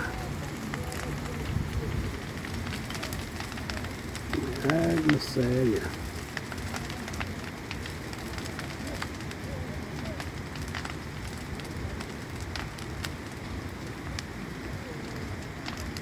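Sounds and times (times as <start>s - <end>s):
bonfire rushing hiss: 0.0s - 16.0s
fire crackles and pops: 0.0s - 16.0s.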